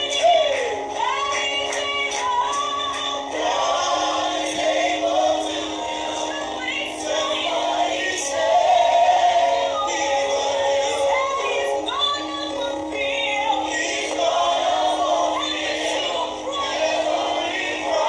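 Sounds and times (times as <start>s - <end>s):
group singing worship song: 0.0s - 18.0s.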